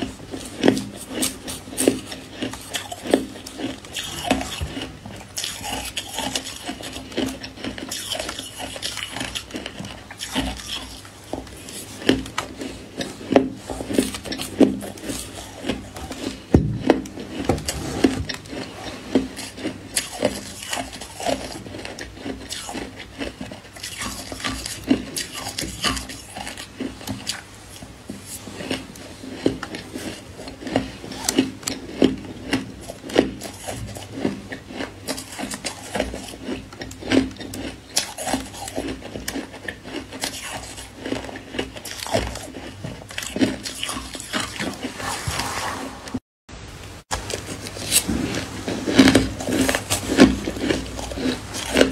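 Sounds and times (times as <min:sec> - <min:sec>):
ice being chewed: 0:00.0 - 0:45.2, 0:47.1 - 0:51.9.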